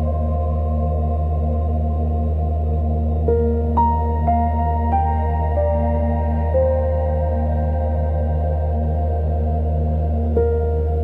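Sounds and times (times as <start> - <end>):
slow ambient drone music: 0.0 - 11.0.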